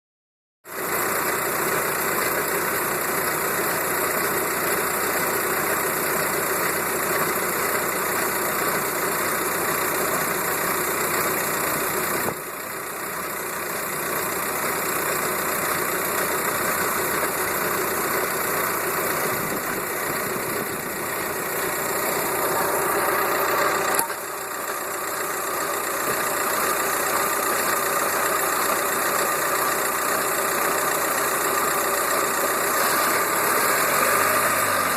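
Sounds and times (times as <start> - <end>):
car engine idling: 0.7 - 34.9
repeating drivetrain shunking: 0.8 - 34.7.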